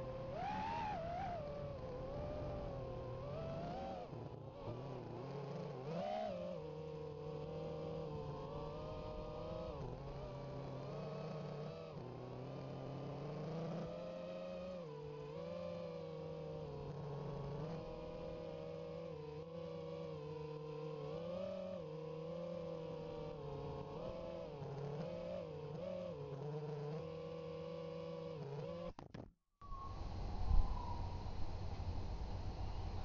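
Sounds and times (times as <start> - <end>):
drone motors and propellers whining: 0.0 - 29.0, 29.6 - 33.0.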